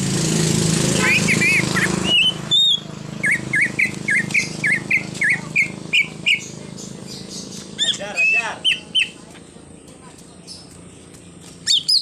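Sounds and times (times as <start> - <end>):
bird chirping: 1.0 - 12.0.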